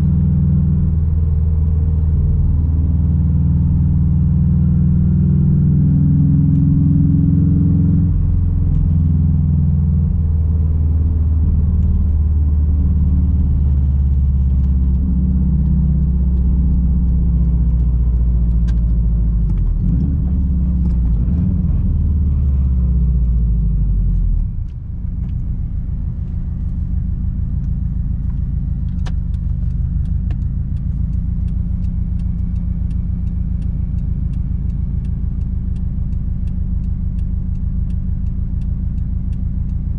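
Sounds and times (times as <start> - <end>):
car exhaust rumbling: 0.0 - 39.9.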